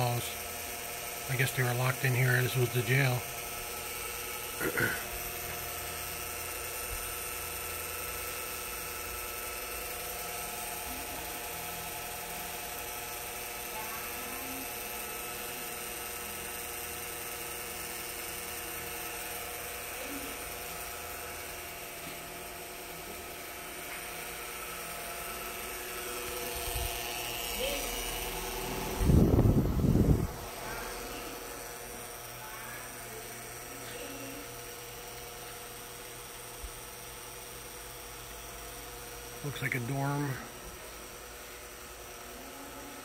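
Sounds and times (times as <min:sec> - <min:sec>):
electric fan whirring: 0:00.0 - 0:43.0.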